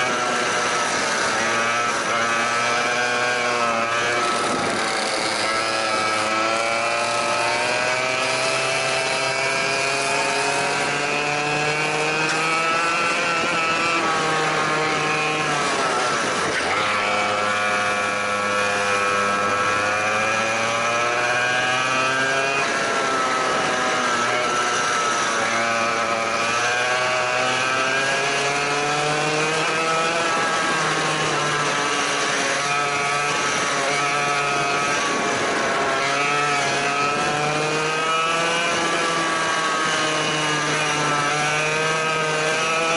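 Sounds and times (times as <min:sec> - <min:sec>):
go-kart engine revving: 0:00.0 - 0:42.9.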